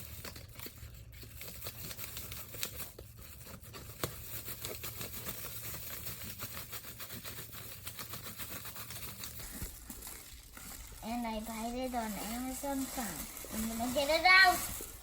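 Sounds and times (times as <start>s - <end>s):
packaging tearing and crinkling: 0.0s - 15.0s.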